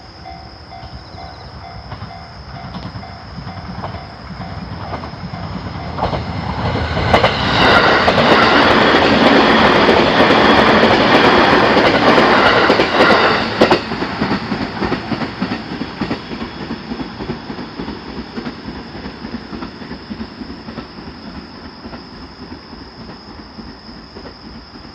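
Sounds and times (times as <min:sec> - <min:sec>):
train passing close by: 0:00.0 - 0:24.9.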